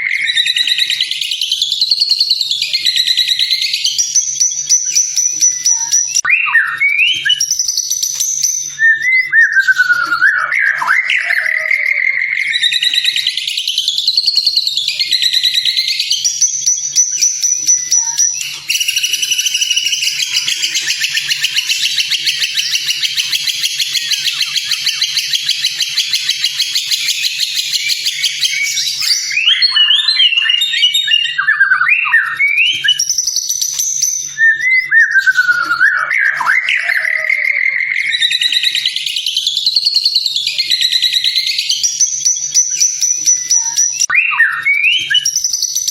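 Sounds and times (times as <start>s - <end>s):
bird whistling song: 0.0s - 45.9s
rapid bird trill: 0.0s - 45.9s.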